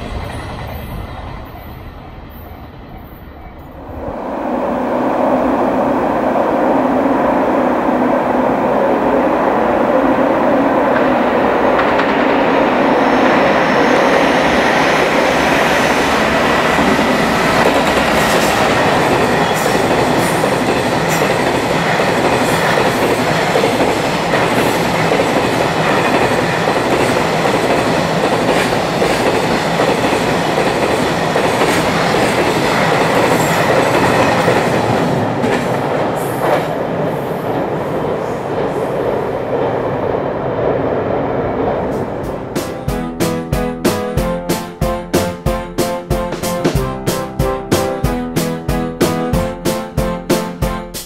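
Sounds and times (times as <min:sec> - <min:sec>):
freight train rumbling past: 0:00.0 - 0:51.0.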